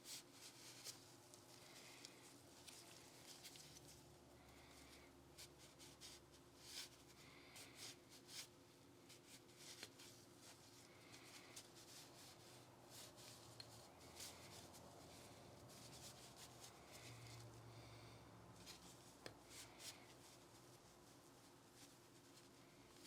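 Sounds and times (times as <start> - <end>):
scrubbing and rubbing strokes: 0.0 - 23.0.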